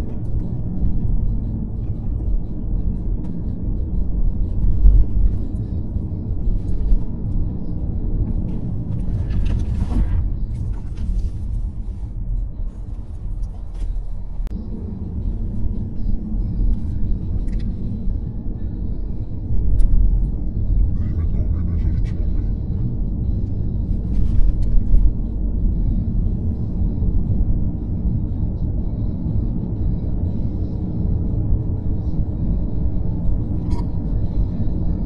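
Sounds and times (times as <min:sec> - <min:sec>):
car road rumble: 0:00.0 - 0:35.0.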